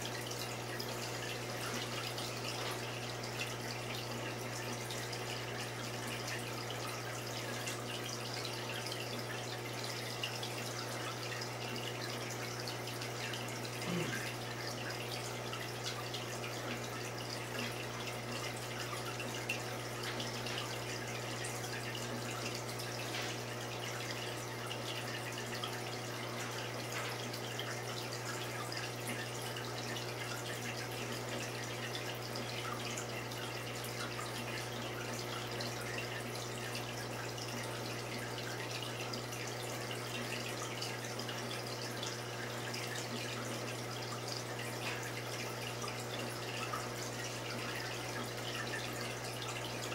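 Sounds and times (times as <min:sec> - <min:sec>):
pump hum: 0:00.0 - 0:49.9
water trickling: 0:00.0 - 0:49.9.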